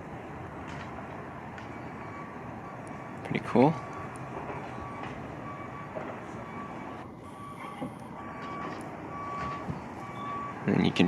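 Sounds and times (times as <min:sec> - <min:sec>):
traffic and machinery hum: 0:00.0 - 0:11.0
reversing alarm beeping: 0:01.6 - 0:11.0.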